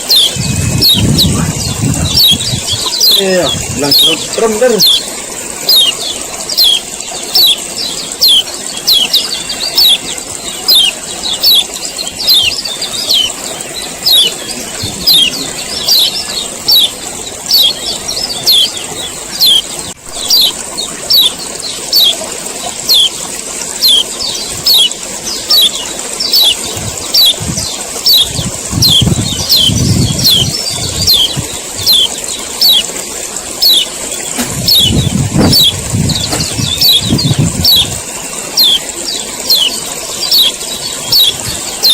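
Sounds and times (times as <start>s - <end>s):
bird chirping call: 0.0s - 41.9s.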